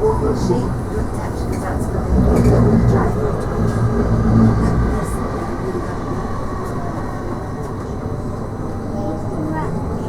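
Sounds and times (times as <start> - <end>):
tram wheels rumbling on rail: 0.0 - 10.0.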